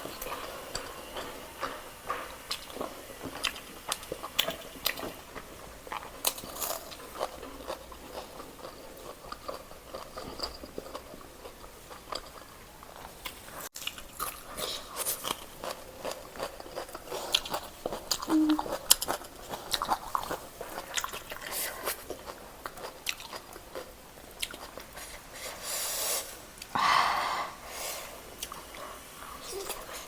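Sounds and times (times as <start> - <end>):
person chewing and crunching: 0.3 - 25.2.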